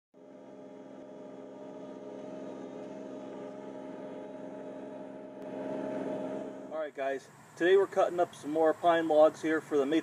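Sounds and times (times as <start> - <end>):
tractor diesel engine drone: 0.1 - 10.0.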